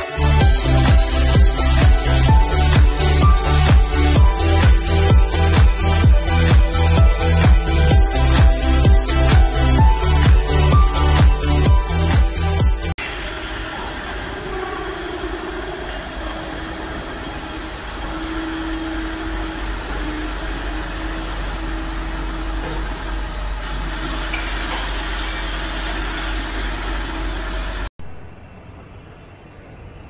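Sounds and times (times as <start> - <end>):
machine low hum: 0.0 - 30.0
mid-pitched machine whine: 0.0 - 30.0.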